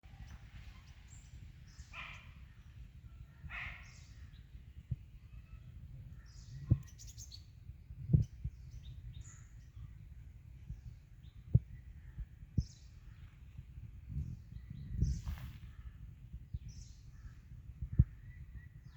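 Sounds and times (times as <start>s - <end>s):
birds calling and chirping: 0.1s - 18.9s.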